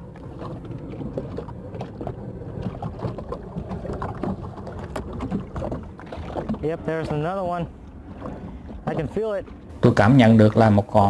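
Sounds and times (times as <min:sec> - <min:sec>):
line knocking and rubbing on boat: 0:00.0 - 0:10.1
water lapping against boat hull: 0:00.0 - 0:11.0.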